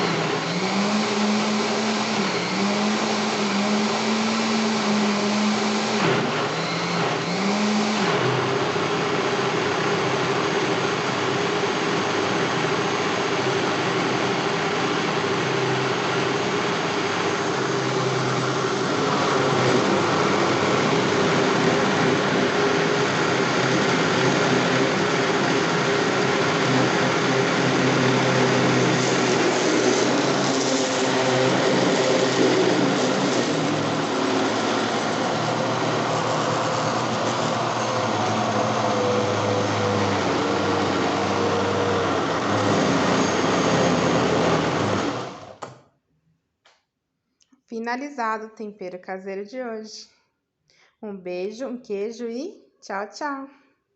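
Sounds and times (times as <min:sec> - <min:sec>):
electric blender motor running: 0:00.0 - 0:45.8.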